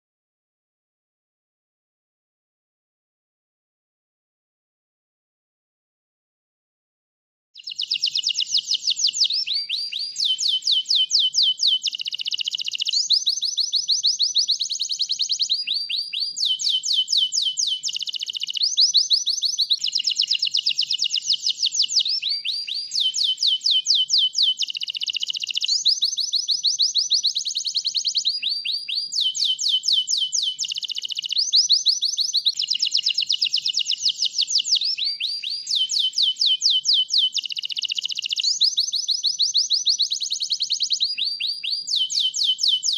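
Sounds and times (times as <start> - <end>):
canary singing trills: 7.6 - 42.9.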